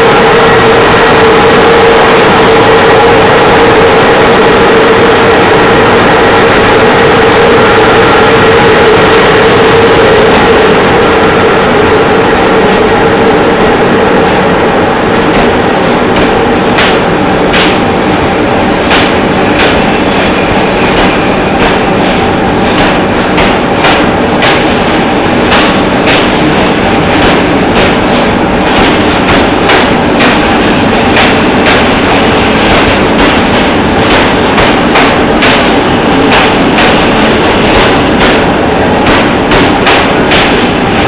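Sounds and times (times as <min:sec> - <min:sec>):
train rumbling past: 0:00.0 - 0:41.0.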